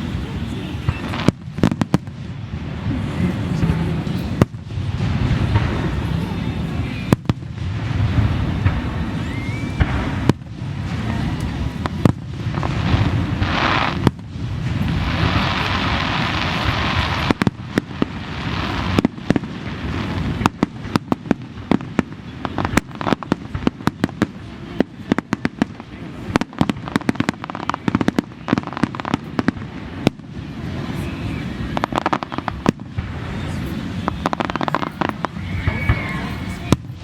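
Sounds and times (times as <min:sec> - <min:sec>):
fireworks bangs: 0:00.0 - 0:37.0
fireworks cracks and pops: 0:00.0 - 0:37.0
fireworks hissing: 0:00.0 - 0:37.0.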